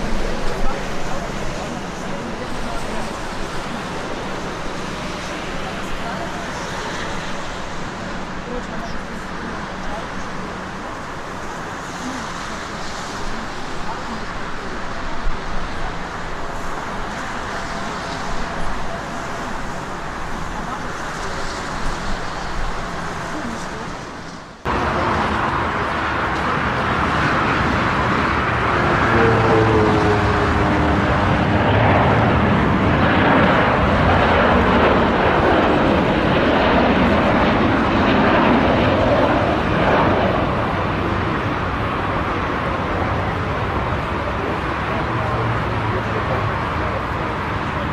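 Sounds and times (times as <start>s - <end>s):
jet engines rushing: 0.0s - 47.9s.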